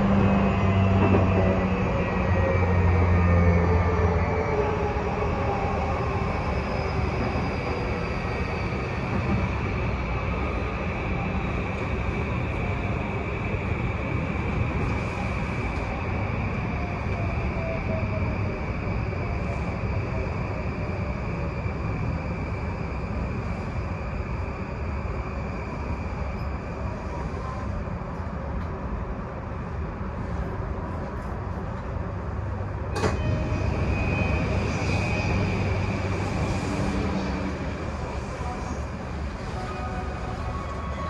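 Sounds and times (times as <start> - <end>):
electric train running rumble: 0.0 - 41.0.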